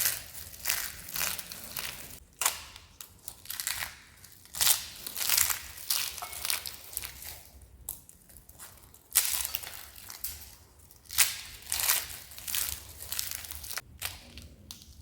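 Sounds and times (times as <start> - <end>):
dry soap crunching: 0.0 - 15.0.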